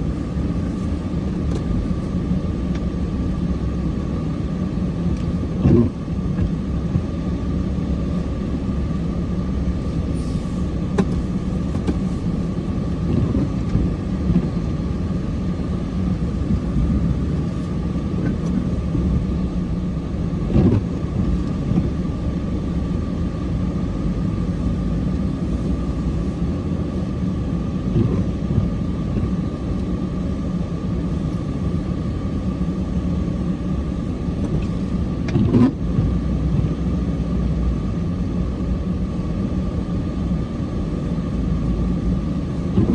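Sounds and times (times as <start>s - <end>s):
engine rumbling: 0.0s - 42.9s.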